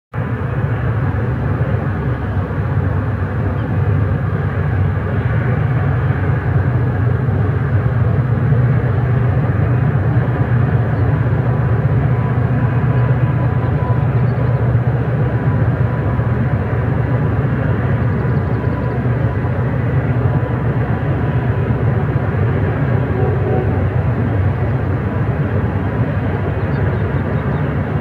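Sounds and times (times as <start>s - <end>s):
distant diesel locomotive rumble: 0.1s - 28.0s.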